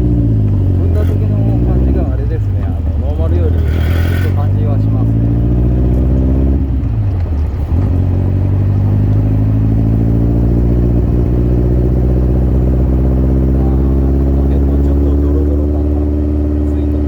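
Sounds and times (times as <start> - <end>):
sports car engine running: 0.0 - 17.0.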